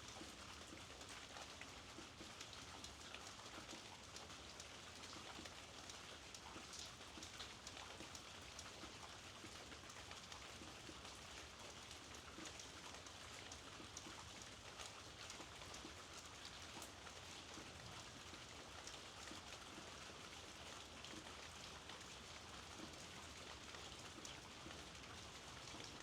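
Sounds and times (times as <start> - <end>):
faint steady rainfall: 0.0 - 26.0.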